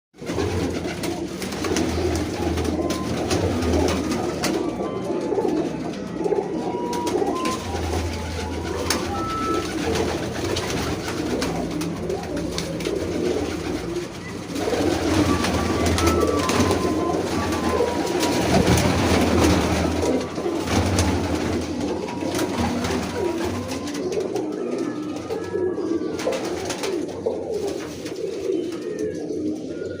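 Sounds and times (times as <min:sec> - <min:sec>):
pigeons cooing: 0:00.2 - 0:30.0.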